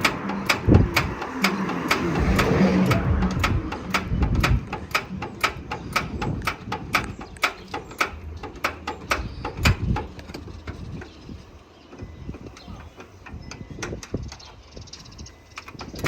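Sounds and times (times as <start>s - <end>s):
low rumbling and knocking: 0.0s - 14.5s
turn signal flasher clicking: 0.0s - 14.6s.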